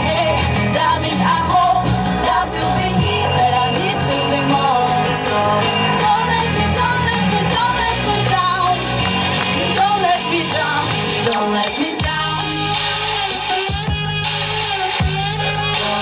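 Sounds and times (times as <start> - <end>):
woman singing into a microphone: 0.0 - 13.3, 15.8 - 16.0
pop song over loudspeakers: 0.0 - 16.0.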